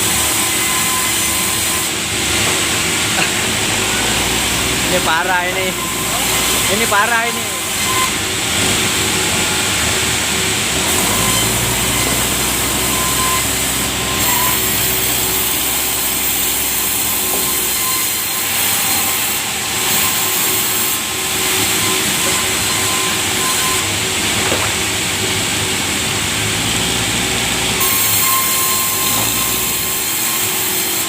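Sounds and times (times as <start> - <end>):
sawmill saw cutting log: 0.0 - 31.0.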